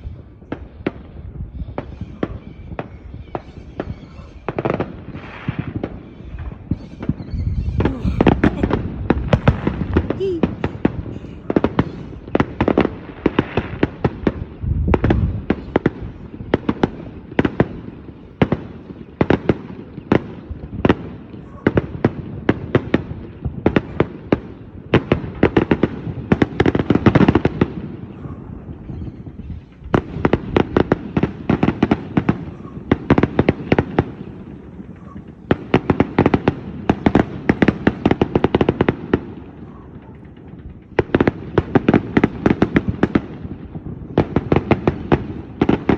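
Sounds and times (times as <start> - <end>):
fireworks crackling bangs: 1.8 - 45.9.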